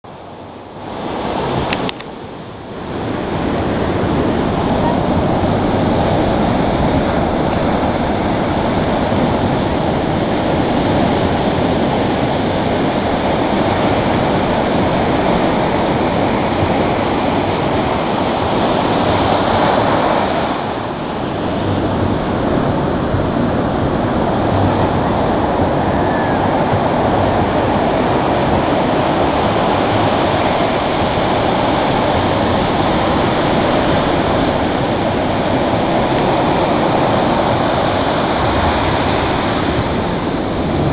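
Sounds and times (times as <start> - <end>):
ocean surf breaking: 0.1 - 40.9.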